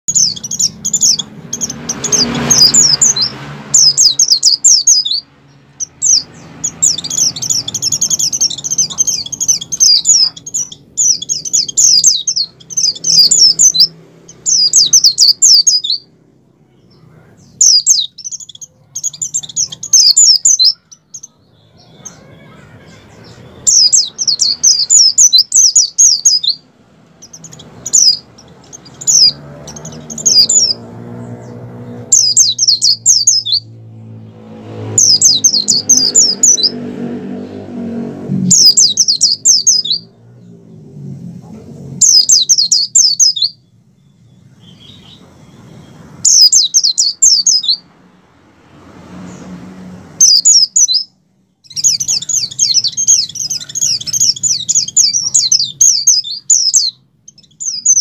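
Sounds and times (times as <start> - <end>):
bird fast chattering song: 0.1 - 33.8, 34.8 - 36.8, 38.5 - 40.6, 42.0 - 47.9, 50.1 - 58.0.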